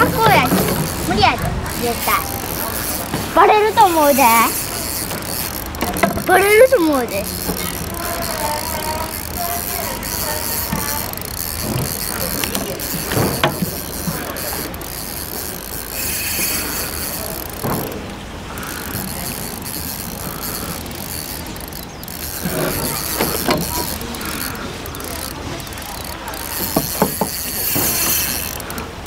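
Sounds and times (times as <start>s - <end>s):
fishing reel whirring and clicking: 0.0s - 29.0s.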